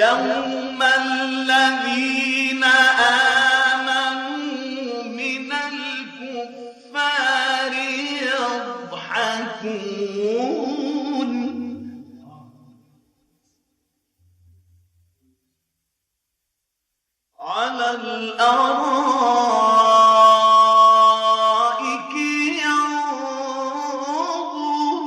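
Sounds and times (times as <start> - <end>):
man reciting melodically: 0.0 - 12.9, 17.4 - 25.0.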